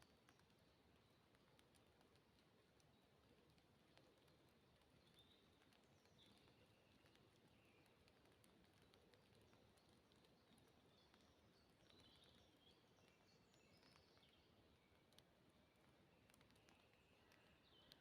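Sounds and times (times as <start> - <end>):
faint dripping ticks: 0.0 - 18.0
soft rain hiss: 0.0 - 18.0.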